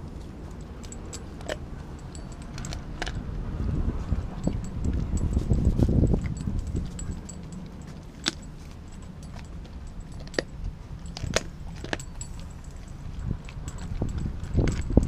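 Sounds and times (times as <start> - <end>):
dog eating with clicks: 0.0 - 15.0
low steady rumble: 0.0 - 15.0.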